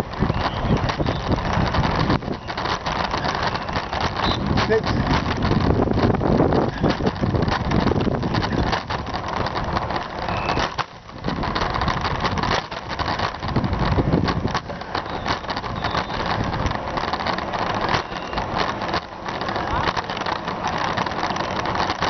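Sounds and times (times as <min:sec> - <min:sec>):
road noise: 0:00.0 - 0:22.0
wind rumbling on microphone: 0:00.0 - 0:22.0.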